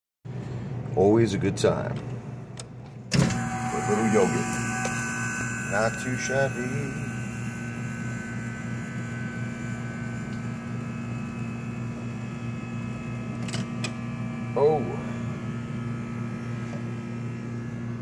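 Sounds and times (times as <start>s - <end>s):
frozen yogurt machine humming: 3.0s - 18.0s.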